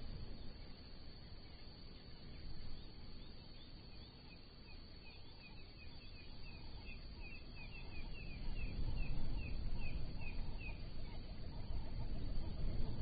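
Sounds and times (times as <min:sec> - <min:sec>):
low outdoor rumble: 0:00.0 - 0:13.0
bird chirping: 0:00.4 - 0:12.9.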